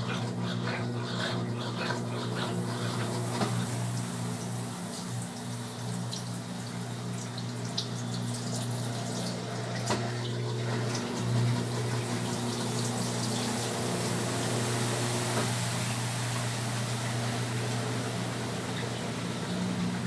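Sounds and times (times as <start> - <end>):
washing machine hum: 0.0 - 20.0
water splashing inside machine: 1.5 - 20.0.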